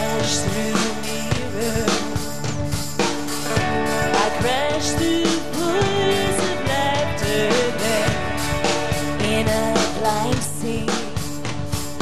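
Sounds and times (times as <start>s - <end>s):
woman singing: 0.0s - 2.7s, 3.9s - 11.6s
live rock band playing: 0.0s - 12.0s.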